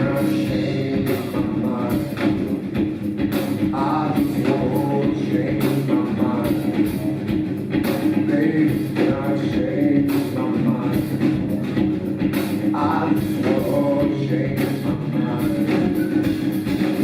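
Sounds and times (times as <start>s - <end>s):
drums keeping a steady beat: 0.0s - 17.0s
live rock band playing: 0.0s - 17.0s.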